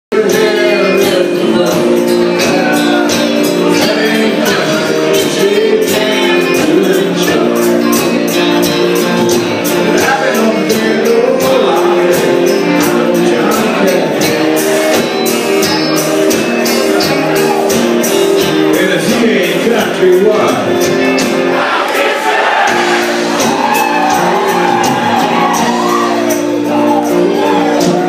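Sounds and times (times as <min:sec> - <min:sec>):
drums steady beat: 0:00.1 - 0:28.0
live country band playing: 0:00.1 - 0:28.0.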